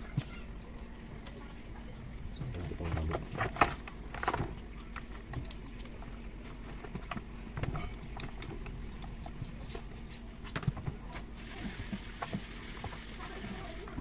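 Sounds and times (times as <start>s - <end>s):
clicks and knocks of handling plastic: 2.4s - 14.0s.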